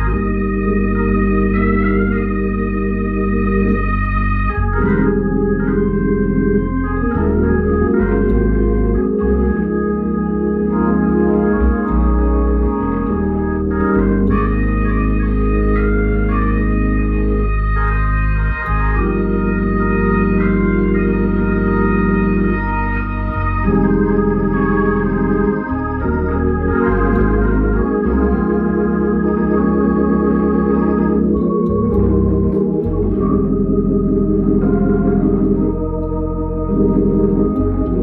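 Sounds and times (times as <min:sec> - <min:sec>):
organ playing gospel chords: 0:00.0 - 0:38.0.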